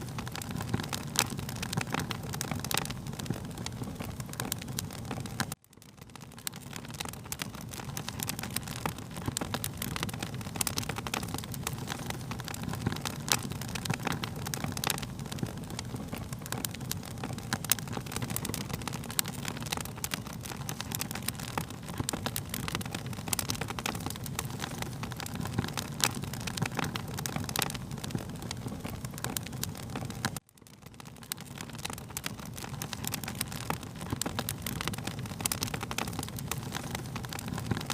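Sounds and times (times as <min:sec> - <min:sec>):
fire popping and snapping: 0:00.0 - 0:37.9
wood fire crackling: 0:00.0 - 0:37.9.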